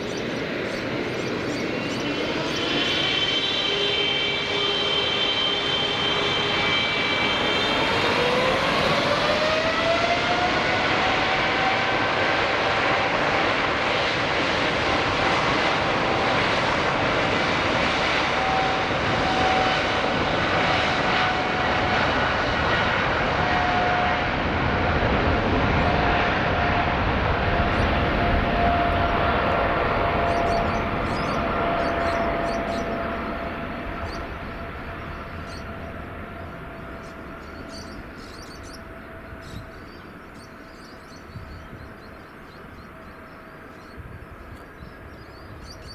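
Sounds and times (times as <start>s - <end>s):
high fan tone: 0.0s - 45.9s
jet engine roar: 0.0s - 45.9s.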